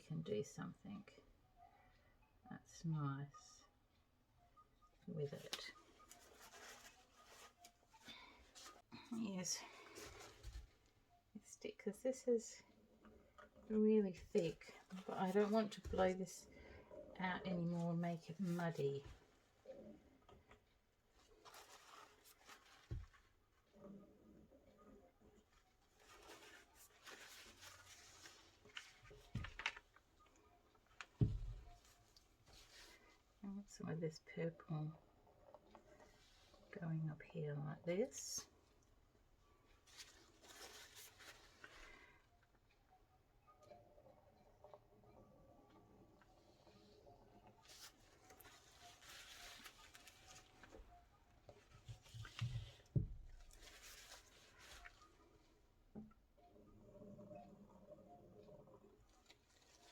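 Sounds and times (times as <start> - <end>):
faint rustling and scraping: 5.2 - 37.4, 39.5 - 42.4, 46.2 - 59.9.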